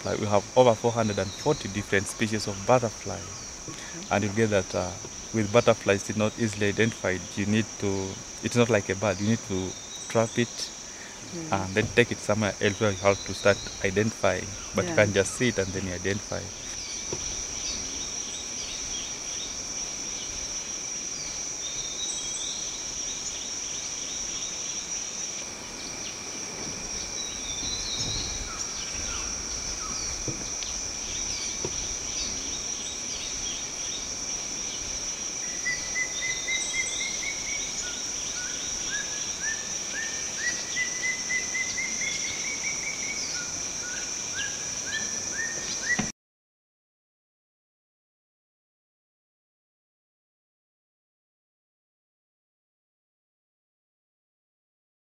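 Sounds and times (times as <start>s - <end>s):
insects droning and chirping: 0.0s - 46.1s.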